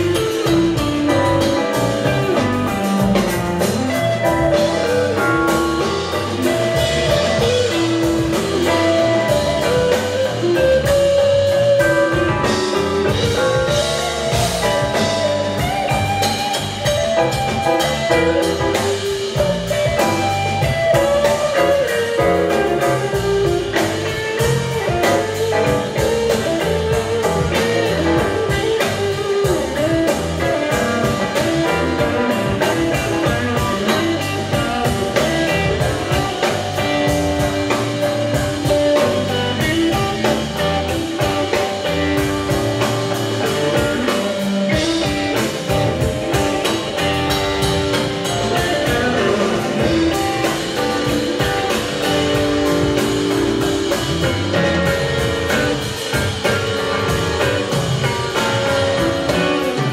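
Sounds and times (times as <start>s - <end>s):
drum kit beat: 0.0s - 59.9s
electric bass: 0.0s - 59.9s
electric guitar: 0.0s - 59.9s.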